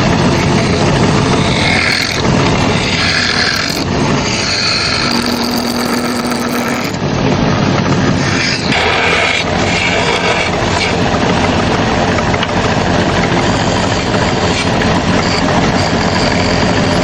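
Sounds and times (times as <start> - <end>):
power tool cutting wood: 0.0 - 7.0, 8.1 - 17.0.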